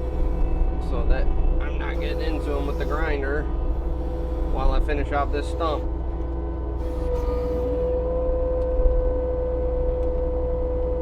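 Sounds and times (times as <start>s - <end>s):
diesel engine under load: 0.0s - 11.0s
steady machine whine: 0.0s - 11.0s.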